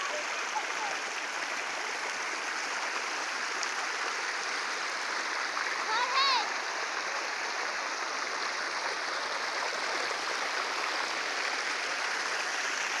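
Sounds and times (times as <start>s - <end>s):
river water rushing over stones: 0.0s - 13.0s.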